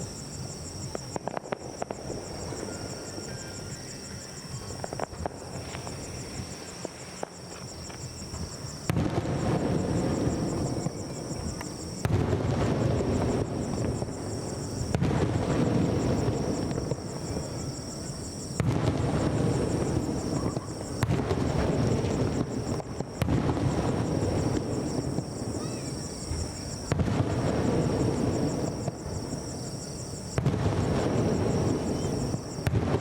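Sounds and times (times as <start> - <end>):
crickets chirping: 0.0 - 33.0
firework crackle: 0.0 - 33.0
firework shells bursting: 0.8 - 3.2, 4.7 - 33.0.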